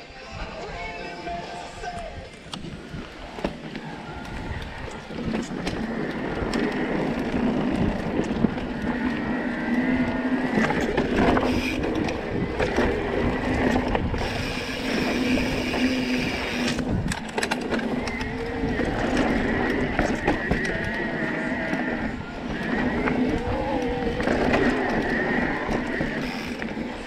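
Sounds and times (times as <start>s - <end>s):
bike rattling over bumps: 2.6s - 27.0s.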